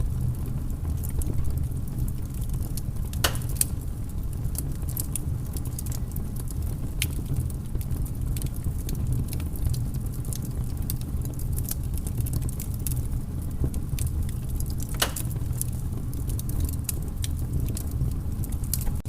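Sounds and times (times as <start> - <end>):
low fire rumble: 0.0 - 19.0
wood fire crackling: 0.0 - 19.0.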